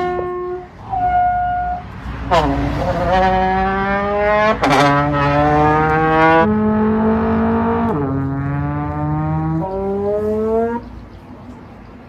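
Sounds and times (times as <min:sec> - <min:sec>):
trombone sliding notes: 0:00.0 - 0:10.8.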